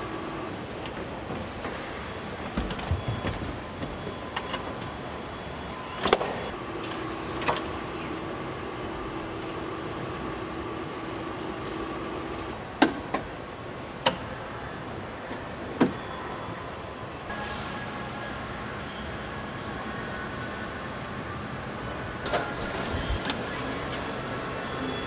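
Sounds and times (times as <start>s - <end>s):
factory machinery humming: 0.0s - 12.8s, 15.8s - 25.0s.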